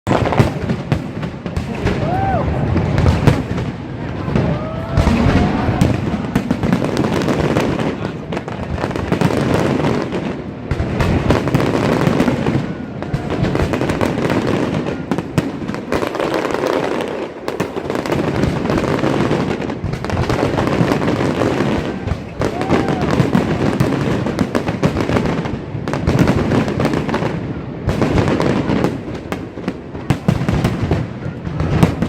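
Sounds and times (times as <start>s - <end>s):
fireworks crackles and bangs: 0.0s - 32.0s.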